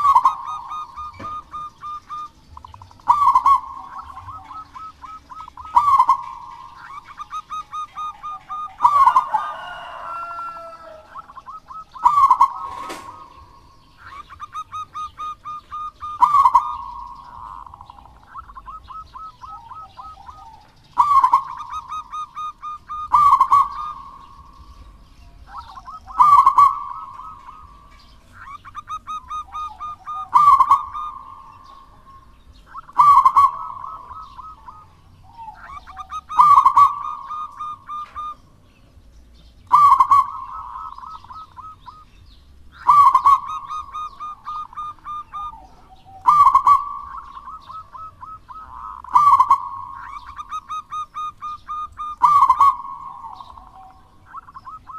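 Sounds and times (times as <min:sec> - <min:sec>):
dove cooing: 0:00.0 - 0:38.4, 0:39.6 - 0:42.1, 0:42.7 - 0:54.9.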